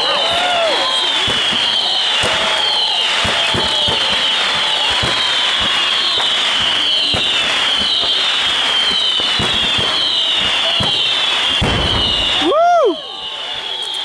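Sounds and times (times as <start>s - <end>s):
firework whistles falling in pitch: 0.0s - 14.0s
firework pops and crackles: 0.3s - 12.7s.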